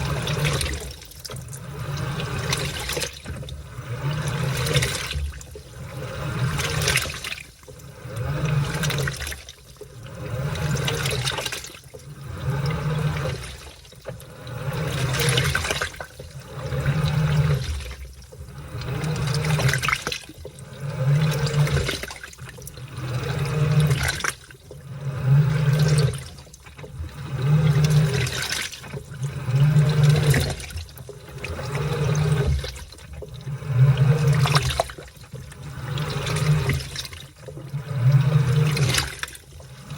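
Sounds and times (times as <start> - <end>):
washing machine motor hum: 0.0 - 39.9
water sloshing through laundry: 0.0 - 39.9.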